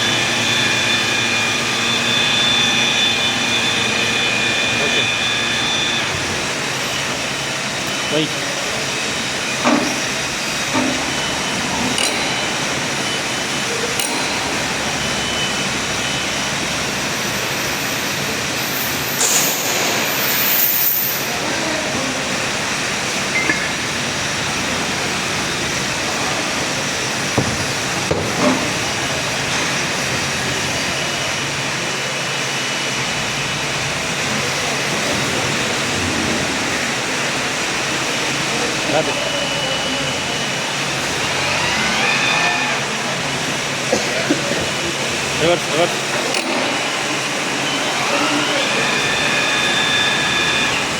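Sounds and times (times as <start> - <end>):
milling machine running: 0.0 - 50.9.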